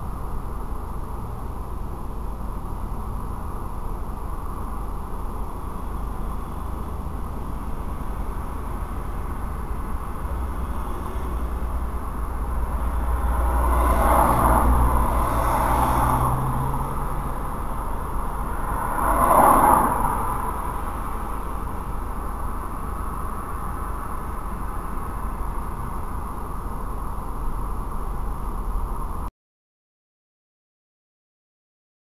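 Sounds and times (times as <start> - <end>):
steady low rumble: 0.0 - 29.3
vehicles passing on road: 0.0 - 29.3.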